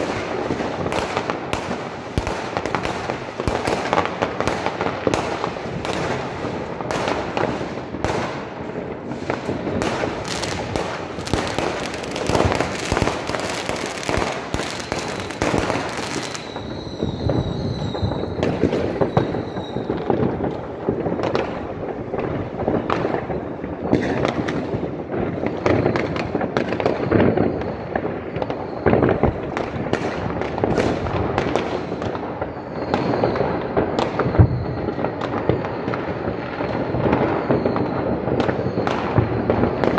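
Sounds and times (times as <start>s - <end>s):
high firework whistle: 0.0s - 8.5s, 9.1s - 21.6s, 25.3s - 29.6s, 31.8s - 39.9s
fireworks bangs and crackling: 0.0s - 39.9s.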